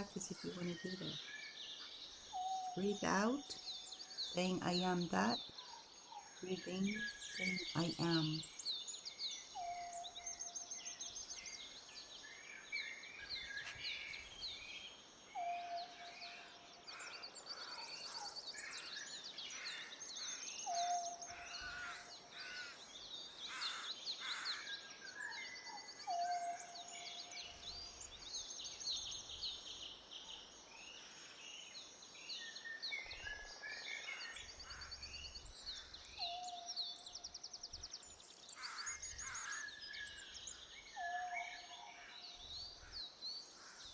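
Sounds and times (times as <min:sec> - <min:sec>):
birds chirping and trilling: 0:00.0 - 0:43.9.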